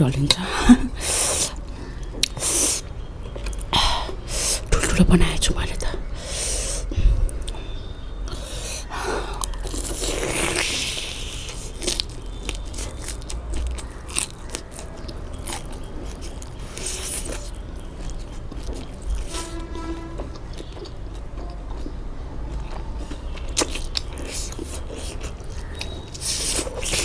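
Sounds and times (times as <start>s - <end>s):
person chewing food: 0.2s - 4.7s, 6.6s - 27.0s.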